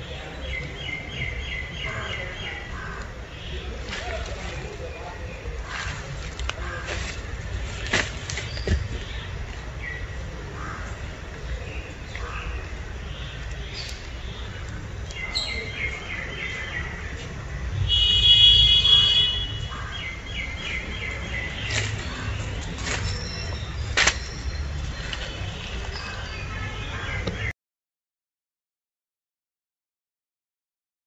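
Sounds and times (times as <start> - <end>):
birds chirping: 0.0 - 27.5.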